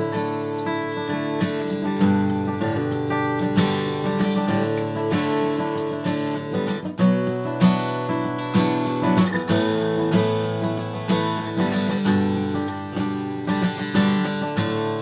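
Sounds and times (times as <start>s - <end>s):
acoustic guitar strummed and picked: 0.0s - 15.0s.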